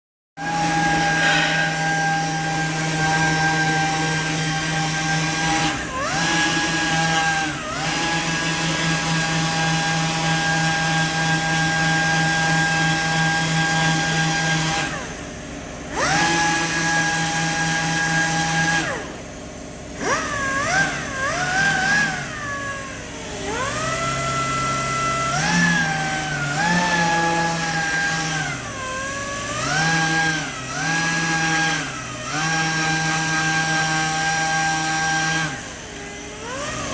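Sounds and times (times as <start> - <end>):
power tool motor running: 0.4 - 36.9.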